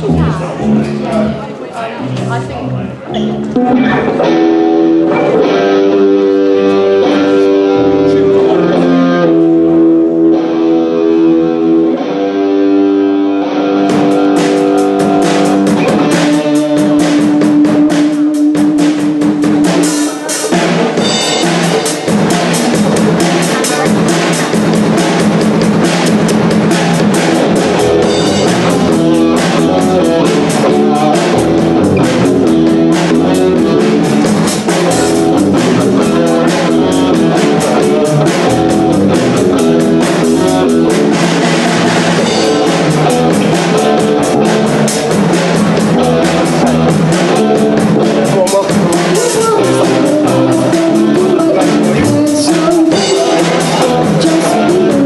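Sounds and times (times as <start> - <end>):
electric guitar: 0.0 - 55.0
drum kit hitting steadily: 3.1 - 12.8, 13.6 - 55.0.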